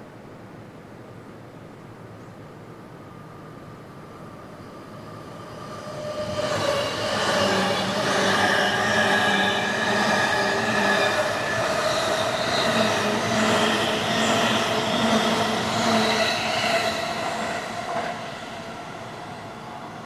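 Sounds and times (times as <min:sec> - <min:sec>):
electric train passing: 0:03.0 - 0:20.0
train whining tones: 0:03.1 - 0:20.0.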